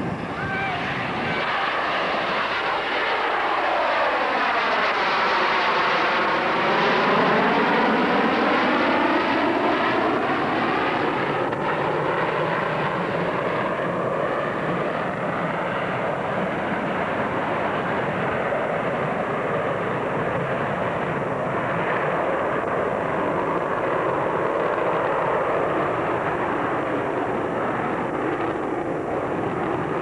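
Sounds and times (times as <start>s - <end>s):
airplane engine roar flying overhead: 0.0s - 30.0s.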